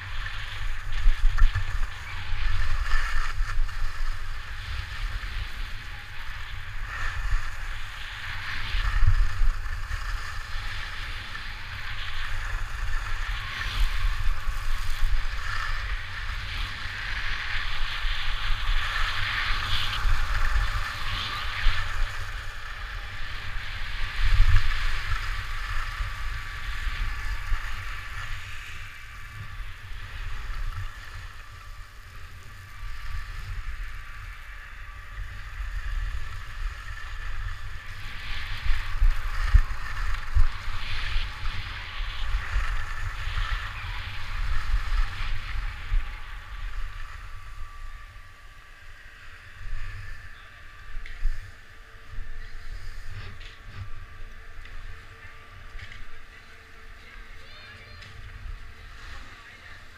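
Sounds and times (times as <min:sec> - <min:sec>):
skis scraping over snow: 0:00.0 - 0:59.9.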